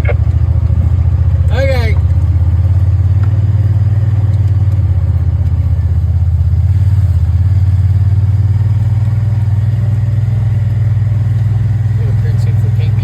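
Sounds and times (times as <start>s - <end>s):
vehicle engine running from inside: 0.0s - 13.0s.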